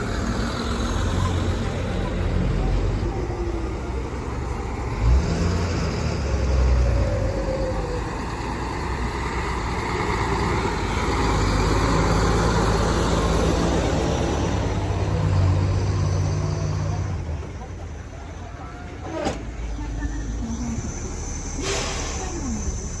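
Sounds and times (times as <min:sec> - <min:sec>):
diesel trucks driving past: 0:00.0 - 0:23.0.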